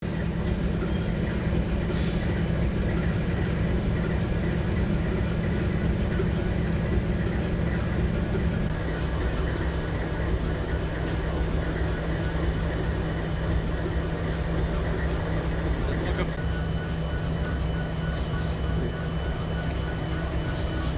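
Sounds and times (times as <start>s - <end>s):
train diesel engine droning: 0.0s - 20.9s.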